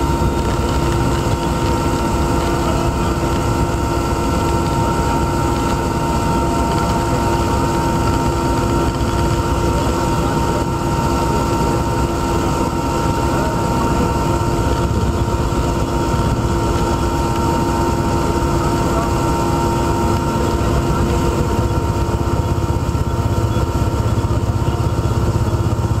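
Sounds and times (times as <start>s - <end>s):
aircraft engine drone in cabin: 0.0s - 26.0s.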